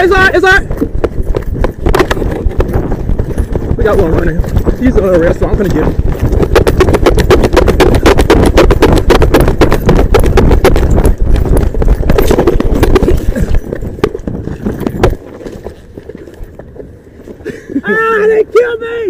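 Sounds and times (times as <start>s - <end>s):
running footfalls on pavement: 0.0s - 19.0s.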